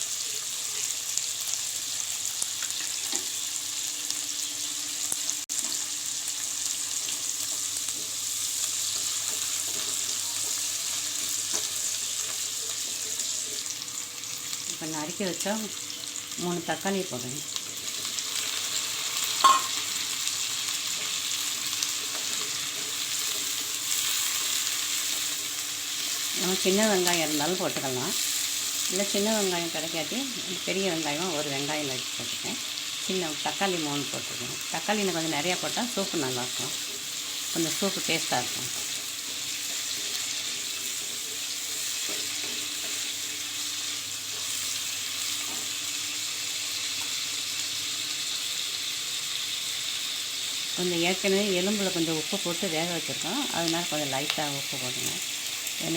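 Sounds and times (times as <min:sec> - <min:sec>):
food sizzling in a pan: 0:00.0 - 0:55.9.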